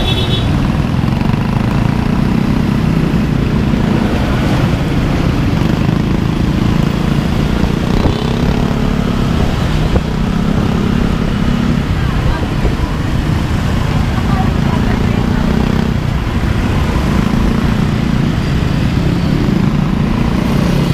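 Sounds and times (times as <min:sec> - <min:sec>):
road noise: 0:00.0 - 0:20.9
vehicle engine hum: 0:00.0 - 0:20.9.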